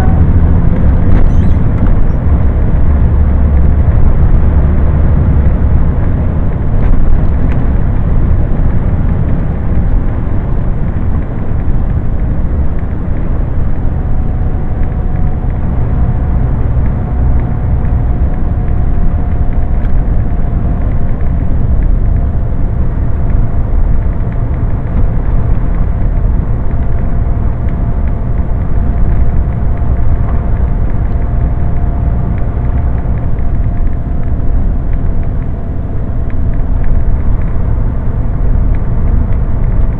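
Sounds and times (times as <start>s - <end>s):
faint steady whine: 0.0s - 39.9s
lorry engine and road noise: 0.0s - 39.9s.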